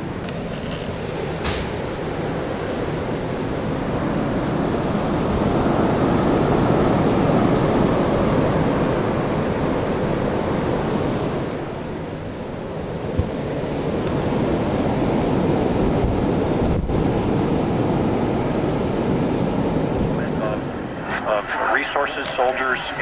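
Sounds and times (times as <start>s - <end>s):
wind gusting: 0.0s - 21.8s.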